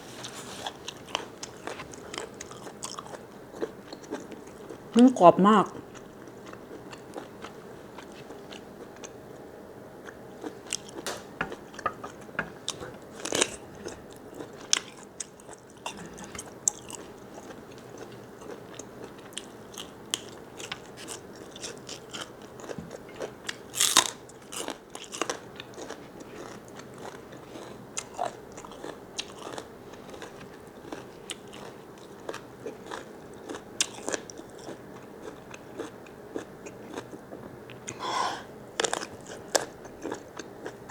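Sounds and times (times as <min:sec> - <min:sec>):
crunchy food chewing: 0:00.0 - 0:05.0, 0:05.7 - 0:09.2, 0:10.0 - 0:38.1, 0:38.7 - 0:40.9.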